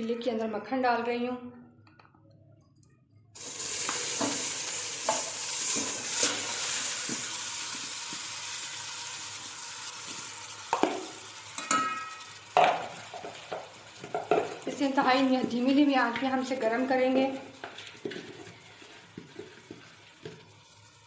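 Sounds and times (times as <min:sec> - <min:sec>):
butter sizzling in hot pot: 0:03.4 - 0:21.0.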